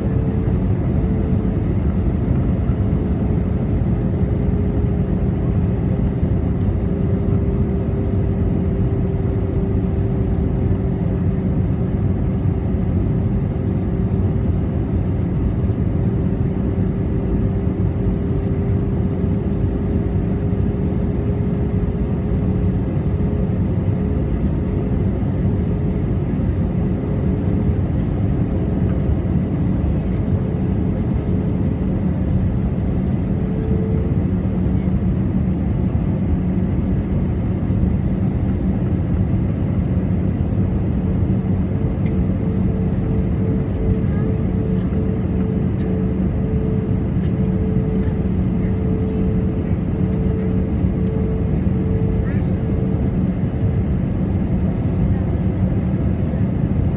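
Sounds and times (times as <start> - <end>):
airliner engines and airflow rumble: 0.0 - 56.9
constant cabin hum: 0.0 - 56.9.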